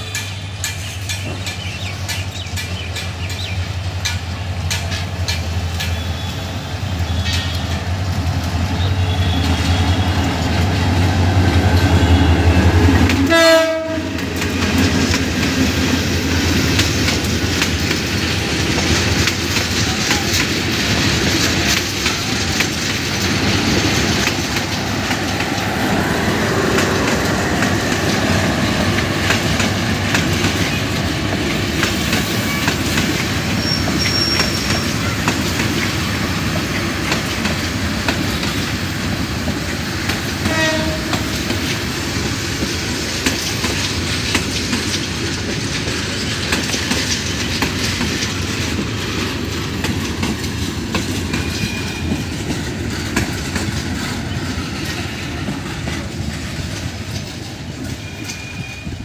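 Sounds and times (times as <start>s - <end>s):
diesel locomotive engine drone: 0.0s - 59.0s
train coaches rumbling past: 0.0s - 59.0s.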